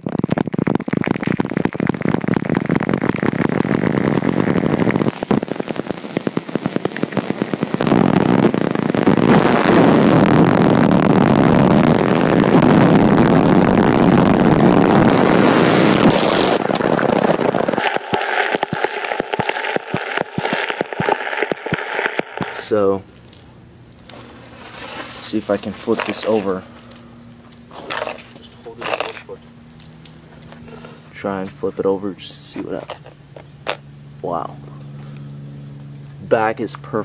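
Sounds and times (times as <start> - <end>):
fire crackling and popping: 0.0 - 31.5.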